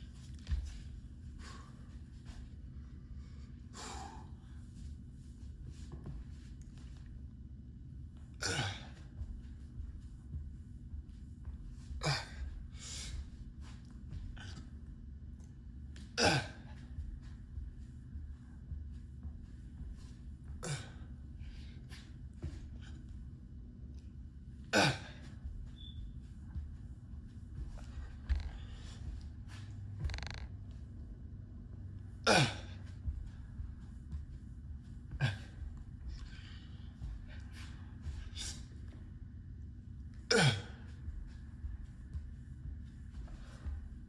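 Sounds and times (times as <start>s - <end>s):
steady low rumble: 0.0s - 44.0s.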